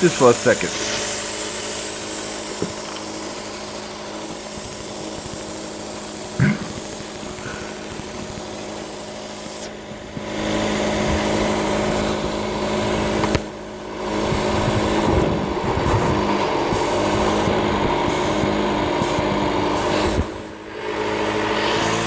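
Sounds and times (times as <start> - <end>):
car engine high idle: 0.0 - 6.5, 7.1 - 21.6
air hissing into vacuum nipple: 0.0 - 10.7, 14.1 - 22.0.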